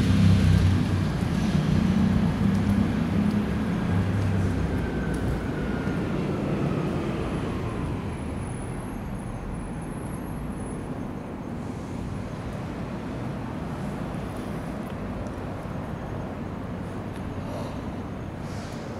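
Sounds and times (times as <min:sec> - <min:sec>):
traffic rumble: 0:00.0 - 0:18.9.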